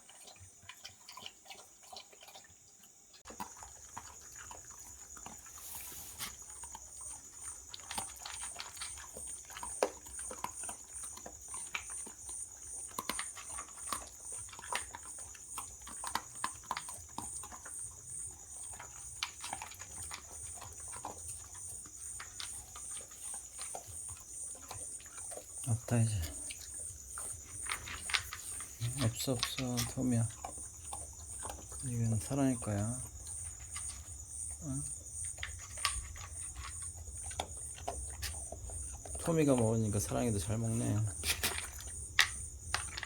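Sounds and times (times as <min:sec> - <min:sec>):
insects chirping: 0:00.0 - 0:43.0
dog crunching dry kibble: 0:03.3 - 0:43.0.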